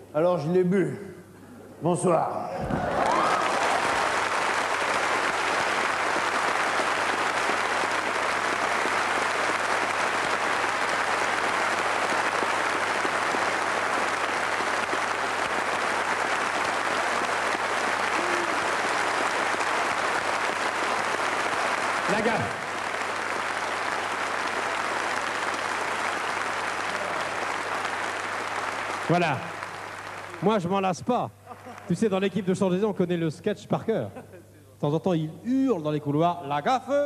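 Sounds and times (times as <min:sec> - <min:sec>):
audience applauding: 0:02.6 - 0:32.3.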